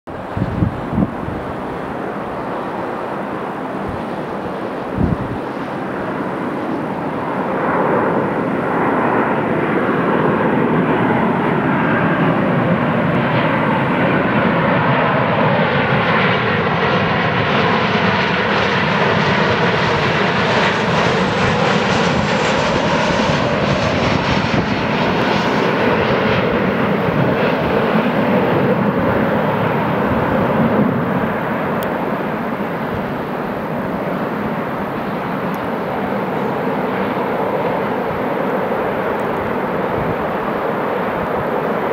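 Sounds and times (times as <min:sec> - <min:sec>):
jet airliner passing: 0:00.1 - 0:41.9.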